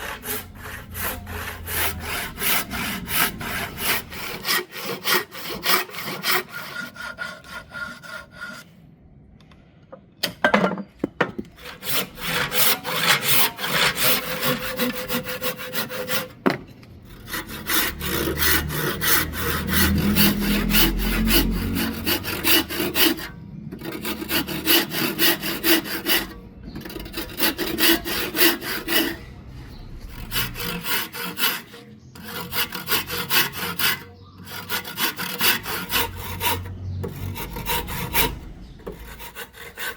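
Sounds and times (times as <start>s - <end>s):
hand saw cutting wood: 0.0s - 8.7s, 11.6s - 39.9s.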